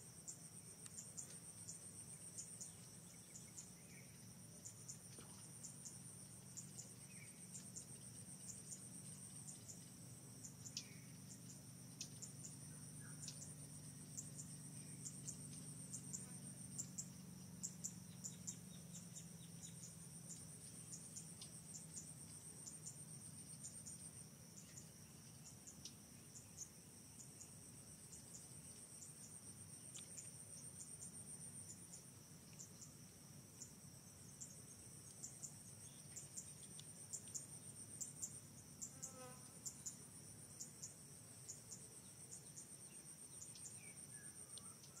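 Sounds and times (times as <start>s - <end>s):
insects trilling: 0.1s - 45.0s.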